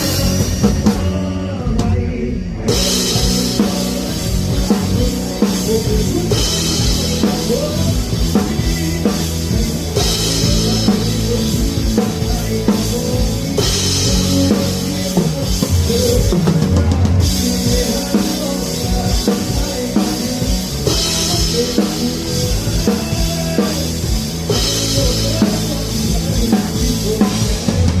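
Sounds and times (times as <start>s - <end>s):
bass line: 0.0s - 28.0s
rock band playing live: 0.0s - 28.0s.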